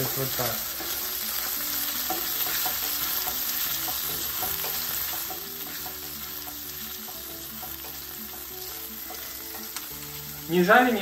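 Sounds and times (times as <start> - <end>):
bacon sizzling in a skillet: 0.0 - 11.0.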